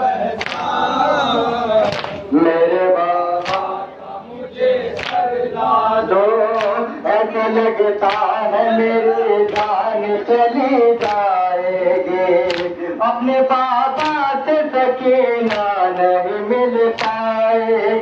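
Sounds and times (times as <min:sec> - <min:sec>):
men chanting a lament: 0:00.0 - 0:18.0.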